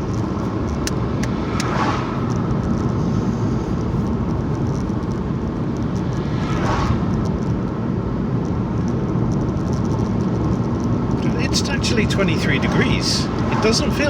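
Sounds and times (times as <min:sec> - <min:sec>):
road and engine rumble inside car: 0:00.0 - 0:14.0.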